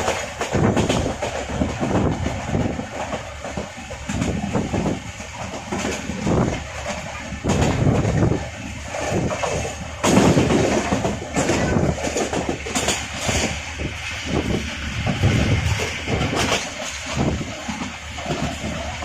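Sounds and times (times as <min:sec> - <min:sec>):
train rumble and rushing: 0:00.0 - 0:19.0.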